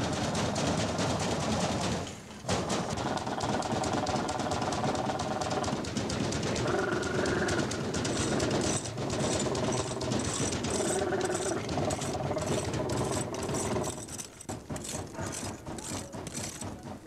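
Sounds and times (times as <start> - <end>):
fast mechanical rattle: 0.0 - 17.0.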